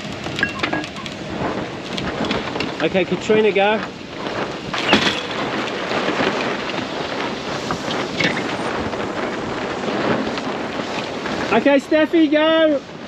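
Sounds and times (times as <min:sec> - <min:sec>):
sailcloth rustling and flapping: 0:00.0 - 0:13.0
wind noise: 0:00.0 - 0:13.0.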